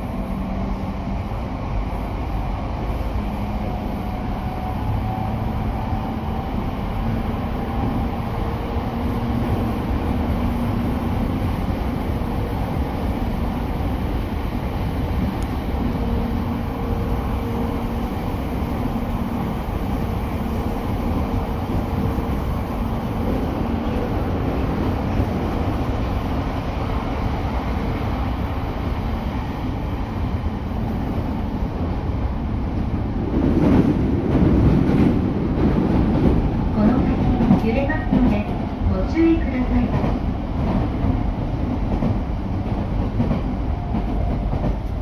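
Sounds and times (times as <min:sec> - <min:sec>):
train interior rumble: 0:00.0 - 0:45.0.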